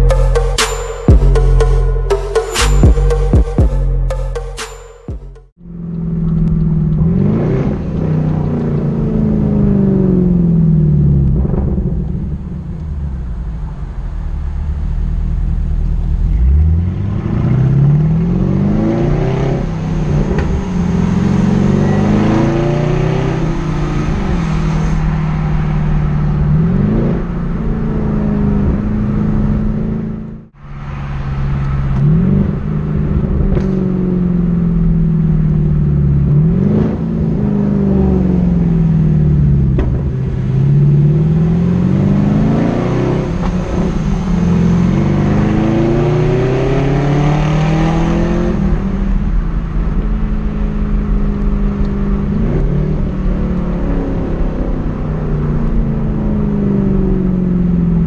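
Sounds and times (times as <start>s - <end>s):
car engine revving: 0.0s - 4.6s, 5.2s - 58.0s.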